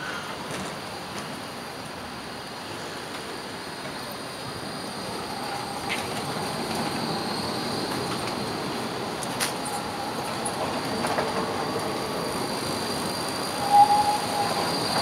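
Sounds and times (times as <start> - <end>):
tram rolling: 0.0 - 15.0
wheels squealing on rails: 2.2 - 15.0.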